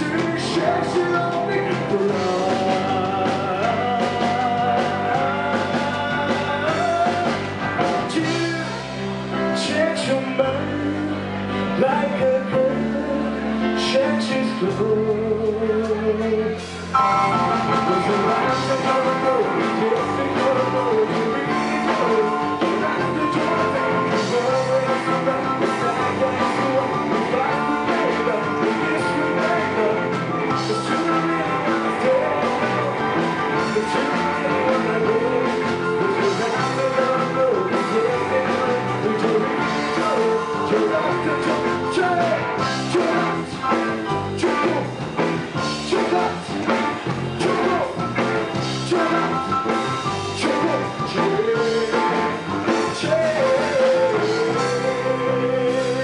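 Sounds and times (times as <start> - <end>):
bass guitar: 0.0 - 56.0
distorted electric guitars: 0.0 - 56.0
drum kit: 0.0 - 56.0
man singing: 0.0 - 56.0.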